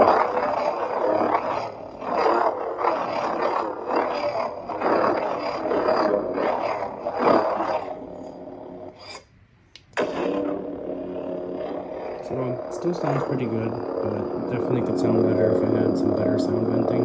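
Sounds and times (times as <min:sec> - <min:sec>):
lightsaber humming and swinging: 0:00.0 - 0:09.3, 0:09.9 - 0:17.0.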